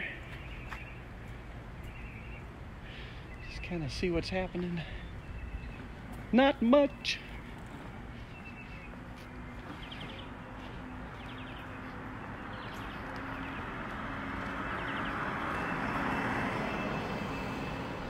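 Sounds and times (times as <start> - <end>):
passing vehicle engine and road noise: 0.0 - 18.0.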